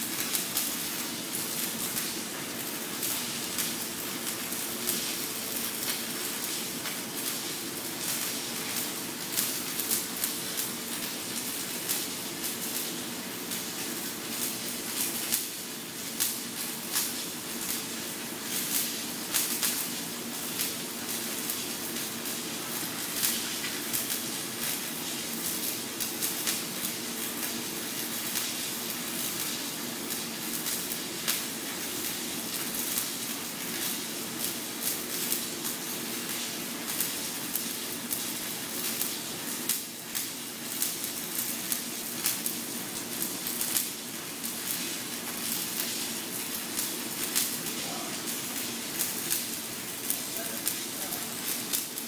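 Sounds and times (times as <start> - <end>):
low electrical hum: 0.0 - 52.0
welding arc crackling hiss: 0.0 - 52.0.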